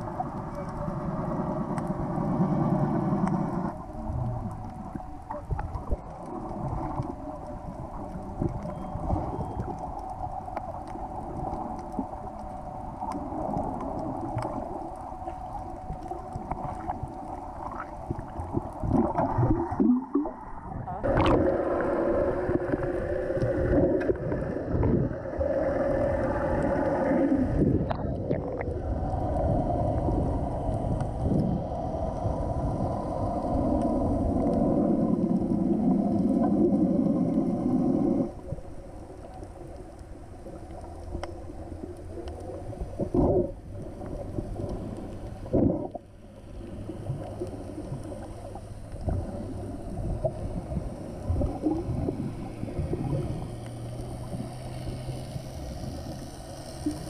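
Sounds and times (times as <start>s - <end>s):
muffled underwater droning rumble: 0.0s - 57.0s
steady low hum: 0.0s - 57.0s.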